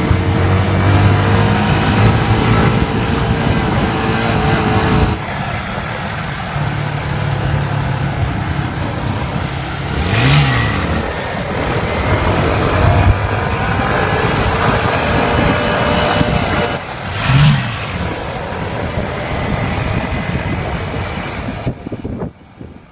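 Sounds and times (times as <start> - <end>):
motorcycle engine revving: 0.0 - 22.4.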